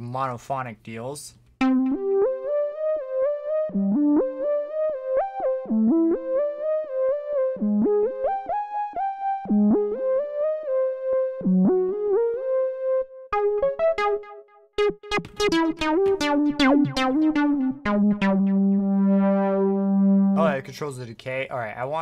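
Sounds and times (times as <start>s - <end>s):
monophonic synth lead melody: 1.6s - 20.6s.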